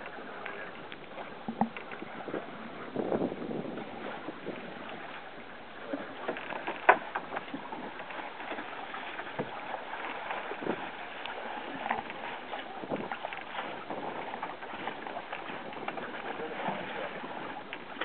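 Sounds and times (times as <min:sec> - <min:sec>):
paddle splashing: 0:00.0 - 0:18.0
water sloshing along hull: 0:00.0 - 0:18.0.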